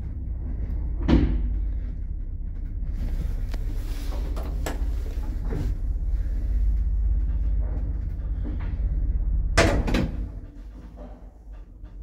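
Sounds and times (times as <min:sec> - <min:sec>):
lift low rumble: 0:00.0 - 0:12.0.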